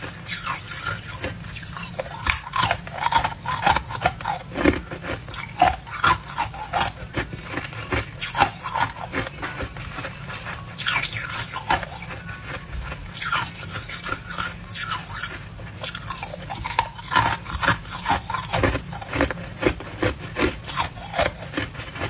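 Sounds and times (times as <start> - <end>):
ice crunched and chewed: 0.0 - 22.0.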